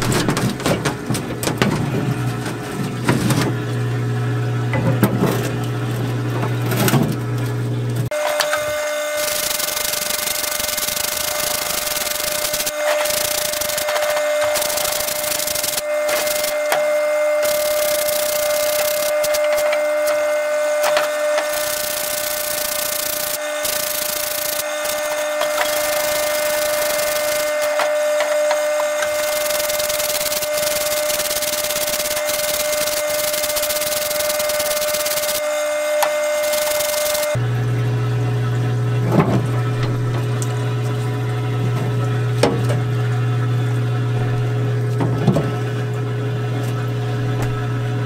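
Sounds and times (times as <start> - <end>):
pump humming: 0.0 - 48.0.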